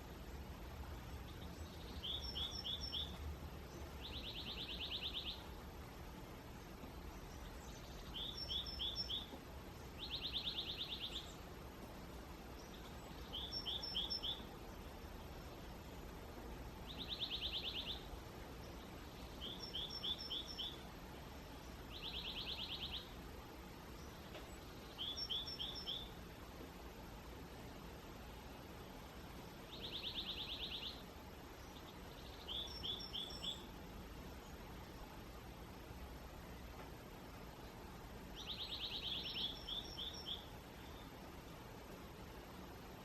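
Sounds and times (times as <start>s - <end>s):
low background noise: 0.0s - 43.0s
songbird chirps and buzzy trill: 0.0s - 43.0s.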